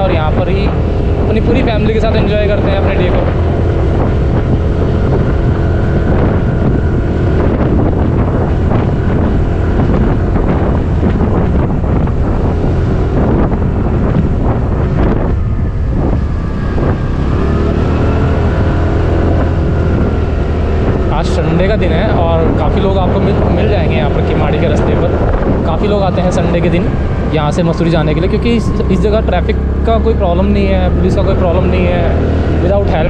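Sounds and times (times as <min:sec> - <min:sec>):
scooter engine running: 0:00.0 - 0:33.0
wind noise on microphone: 0:00.0 - 0:33.0.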